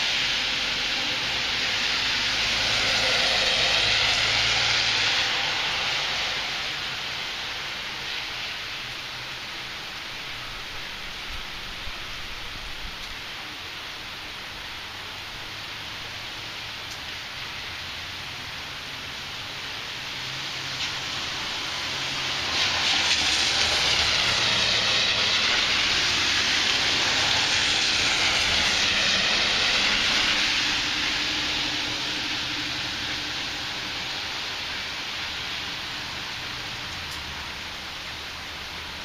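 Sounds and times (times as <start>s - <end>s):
steady rainfall: 0.0s - 39.0s.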